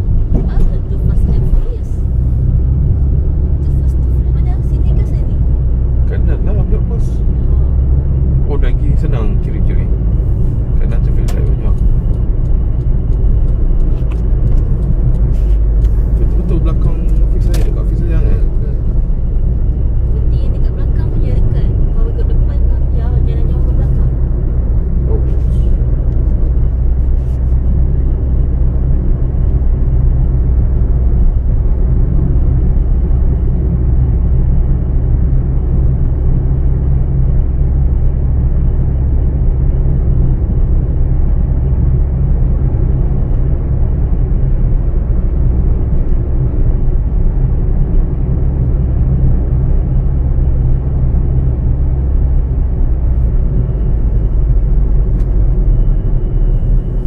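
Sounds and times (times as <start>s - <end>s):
road and engine rumble: 0.0s - 57.0s.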